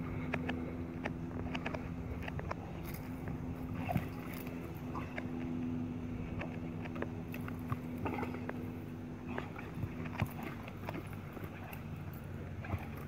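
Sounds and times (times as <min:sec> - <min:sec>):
low machine hum: 0:00.0 - 0:13.0
soft clicks and rustles: 0:00.1 - 0:13.0.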